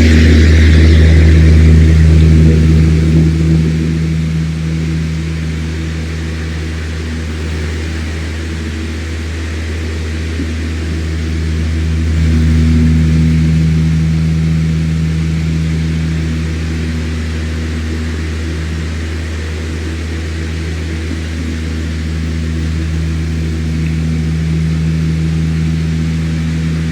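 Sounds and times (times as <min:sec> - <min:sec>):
electric fan running: 0:00.0 - 0:26.9.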